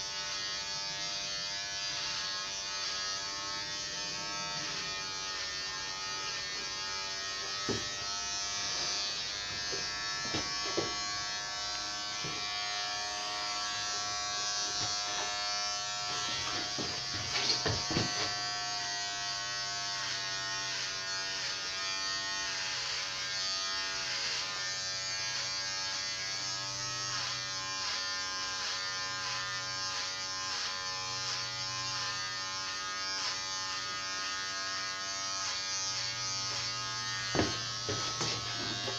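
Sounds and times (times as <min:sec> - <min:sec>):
electric hair clippers humming: 0:00.0 - 0:38.9.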